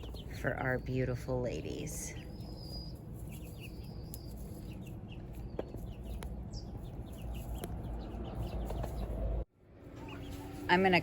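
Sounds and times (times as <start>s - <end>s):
chicks cheeping and clucking: 0.0s - 10.9s.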